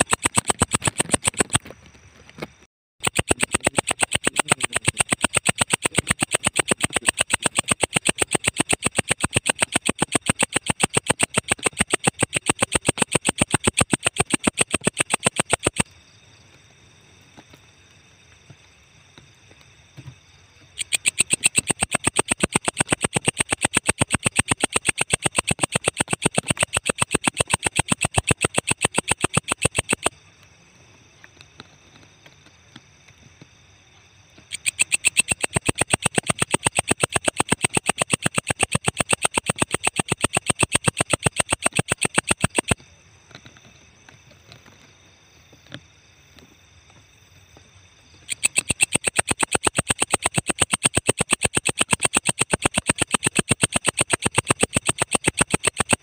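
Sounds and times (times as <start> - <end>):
insect singing rasping pulses: 0.0 - 56.0.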